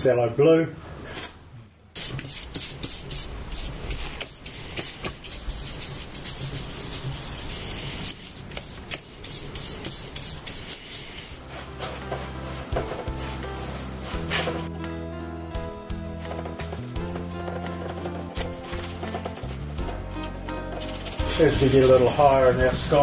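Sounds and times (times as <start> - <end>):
painting knife scraping metal palette: 2.0 - 14.7, 16.2 - 23.0.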